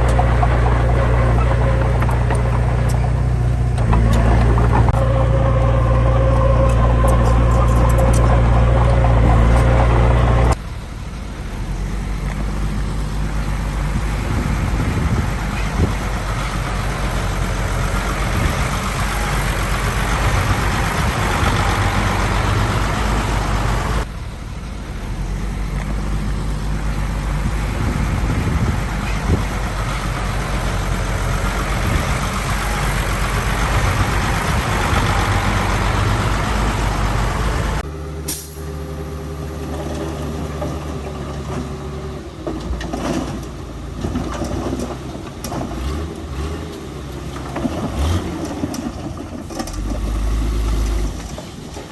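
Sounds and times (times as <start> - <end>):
heavy truck engine labouring: 0.0 - 51.9.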